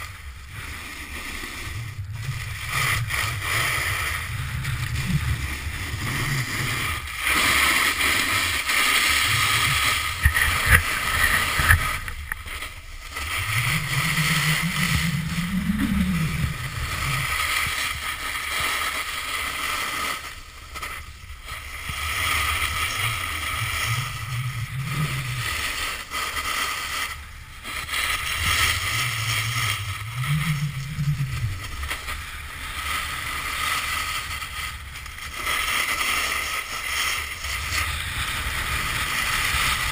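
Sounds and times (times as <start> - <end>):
snowboard carving on packed snow: 0.0 - 39.9
wind rushing over microphone: 0.0 - 39.9.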